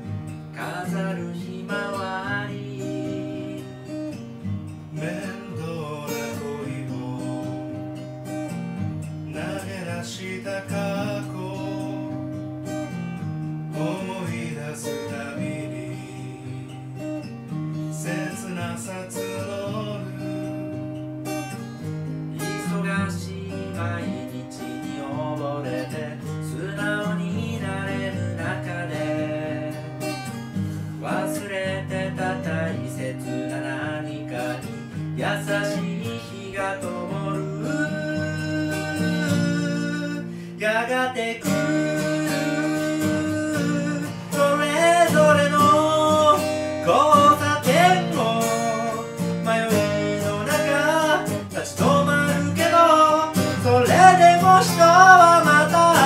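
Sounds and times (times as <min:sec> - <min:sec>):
acoustic guitar strumming: 0:00.0 - 0:56.0
man singing: 0:00.5 - 0:04.2, 0:04.9 - 0:08.4, 0:09.3 - 0:12.8, 0:13.7 - 0:17.2, 0:17.8 - 0:20.8, 0:22.3 - 0:56.0.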